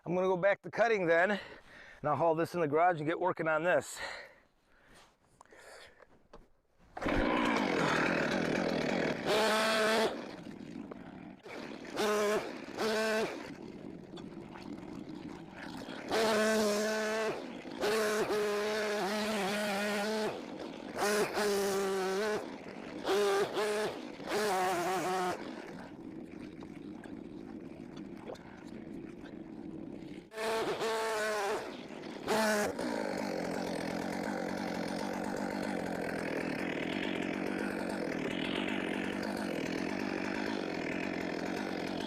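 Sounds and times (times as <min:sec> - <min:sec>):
chainsaw revving: 0:07.0 - 0:42.0.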